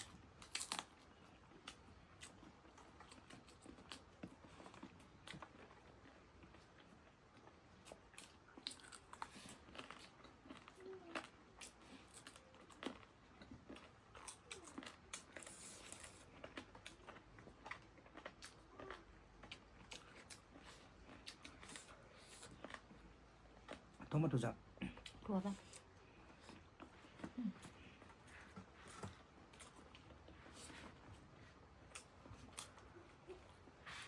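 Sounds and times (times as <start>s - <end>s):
person chewing and crunching food: 0.0s - 34.0s.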